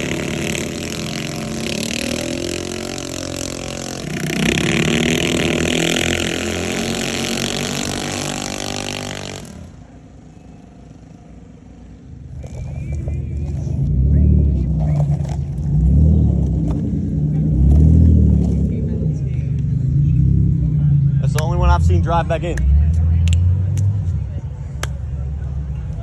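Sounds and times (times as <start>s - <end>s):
minibike engines revving: 0.0s - 24.0s.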